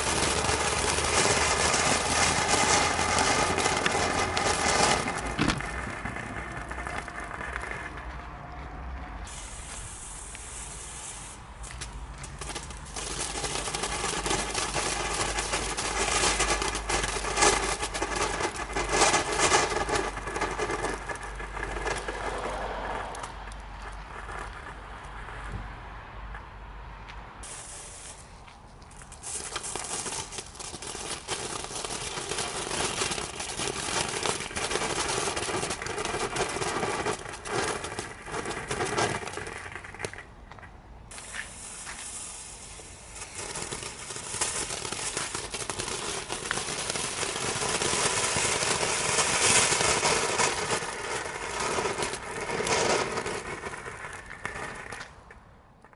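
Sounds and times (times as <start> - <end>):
ground fountain fireworks crackling: 0.0 - 26.6, 27.4 - 55.9.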